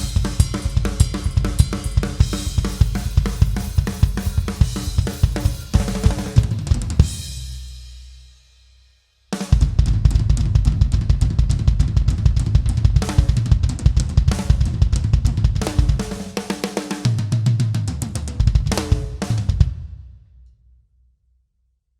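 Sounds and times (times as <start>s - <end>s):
drum kit beat with cymbals: 0.0s - 20.0s.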